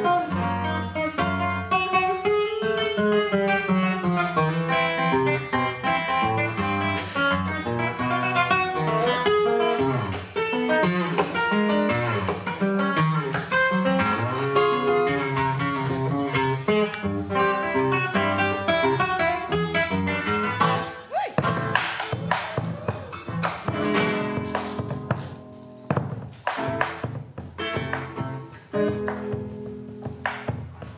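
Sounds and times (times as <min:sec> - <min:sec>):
classical guitar plucked: 0:00.0 - 0:30.9.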